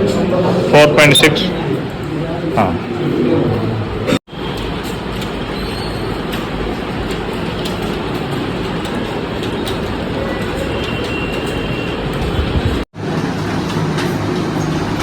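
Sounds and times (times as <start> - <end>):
many keyboards clattering: 0.0 - 15.0.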